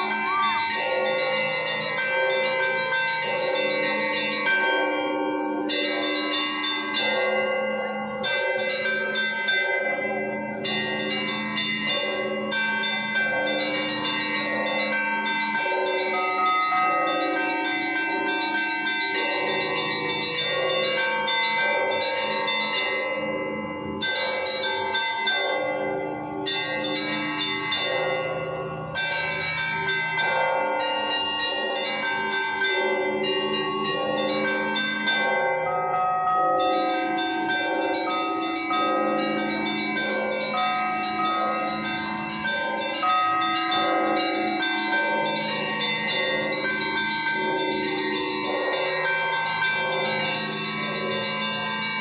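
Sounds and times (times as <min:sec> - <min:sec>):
deep bells humming: 0:00.0 - 0:52.0
small high bells ringing: 0:00.0 - 0:52.0.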